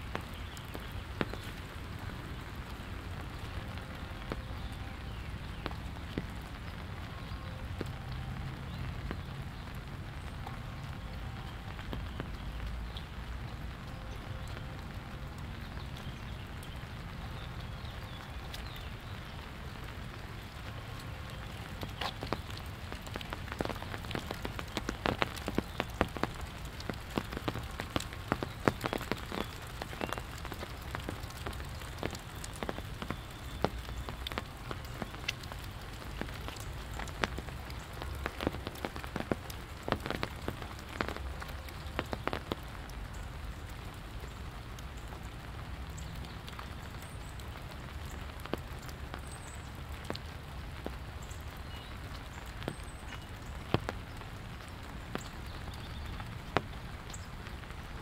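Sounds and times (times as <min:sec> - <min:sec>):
sharp raindrop hits close by: 0:00.0 - 0:58.0
steady rain falling: 0:00.0 - 0:58.0.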